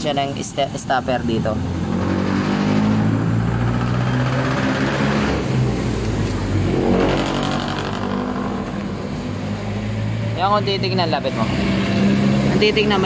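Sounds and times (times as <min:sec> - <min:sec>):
vehicle engine revving: 0:01.3 - 0:13.0.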